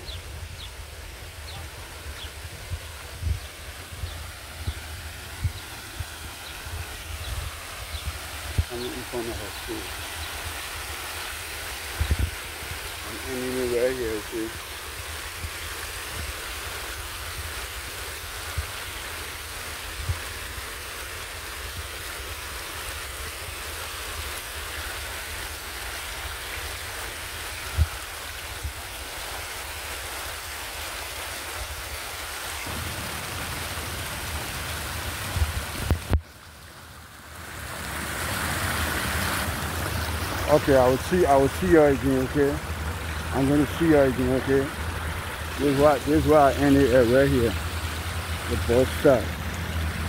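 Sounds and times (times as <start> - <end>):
street noise hiss: 0.0 - 50.0.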